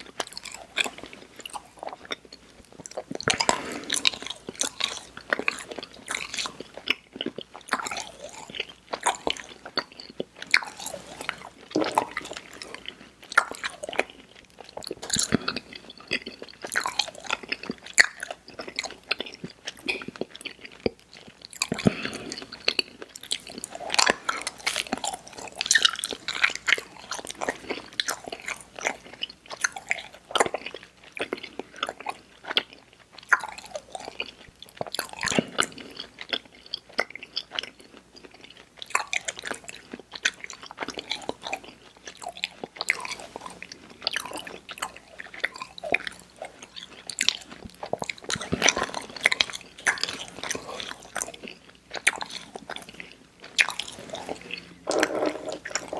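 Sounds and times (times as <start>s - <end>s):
chewing candy mouth sounds: 0.0s - 55.9s.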